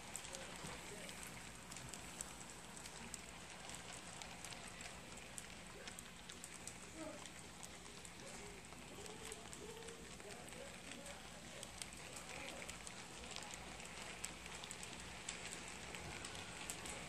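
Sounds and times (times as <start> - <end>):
model train wheels clicking: 0.0 - 17.0.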